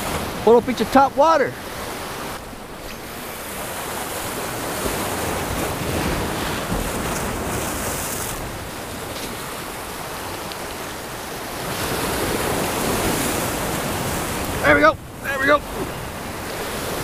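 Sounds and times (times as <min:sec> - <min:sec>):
waves splashing against rocks: 0:00.0 - 0:17.0.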